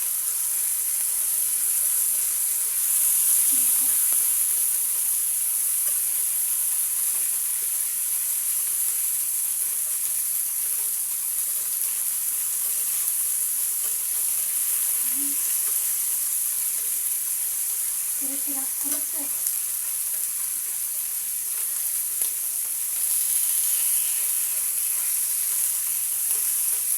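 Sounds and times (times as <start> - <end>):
fish sizzling in hot oil: 0.0 - 26.9.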